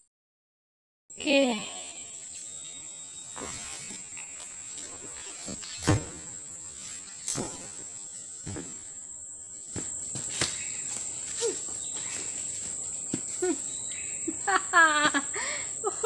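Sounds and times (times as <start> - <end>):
insects droning: 1.2 - 16.0.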